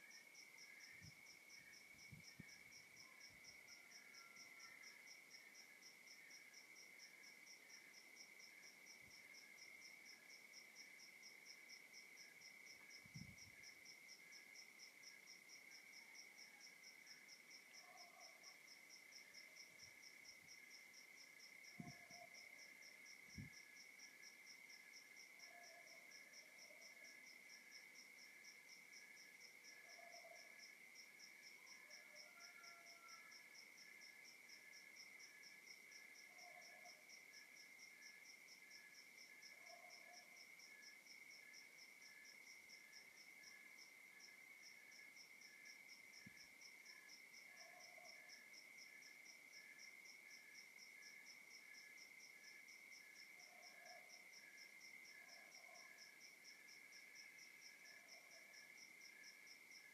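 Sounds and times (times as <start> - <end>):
cricket chirps: 0.0 - 59.9.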